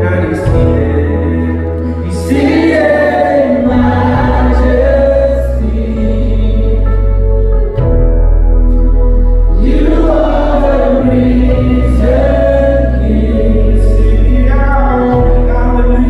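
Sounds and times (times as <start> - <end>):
choir singing gospel song: 0.0 - 8.1, 8.8 - 16.0
instrumental backing with deep bass: 0.0 - 16.0.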